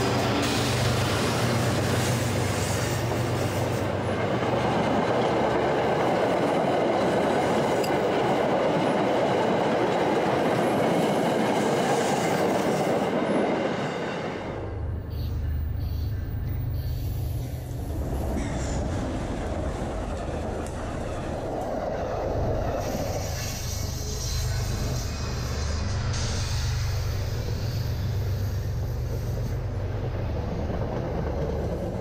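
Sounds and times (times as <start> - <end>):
train passing at speed: 0.0 - 32.0
train wheels rumbling on rails: 0.0 - 32.0.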